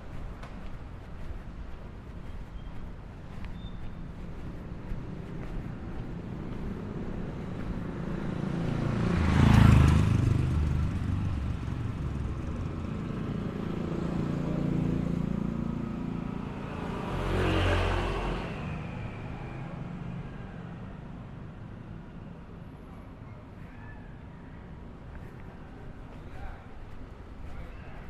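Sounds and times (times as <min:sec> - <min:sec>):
traffic engine noise: 0:00.0 - 0:28.0
vehicles passing close by: 0:00.0 - 0:28.0.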